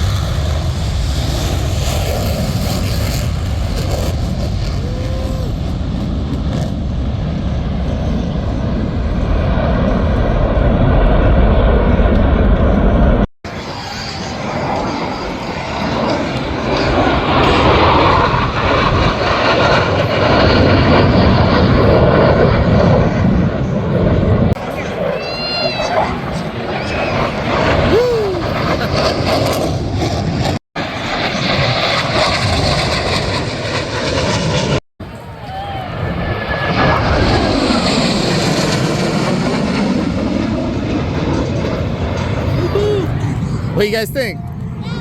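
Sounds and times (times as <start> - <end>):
jet planes flying past: 0.0 - 45.0.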